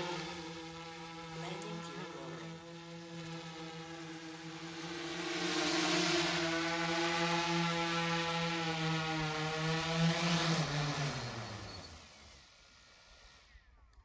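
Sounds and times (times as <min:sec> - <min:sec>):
drone propellers buzzing: 0:00.0 - 0:13.8
motors spinning down: 0:00.0 - 0:13.8.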